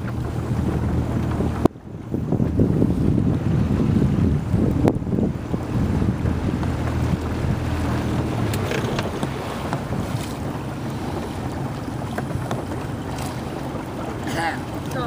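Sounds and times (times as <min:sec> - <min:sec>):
low rumble: 0:00.0 - 0:15.0
wind buffeting microphone: 0:00.0 - 0:15.0.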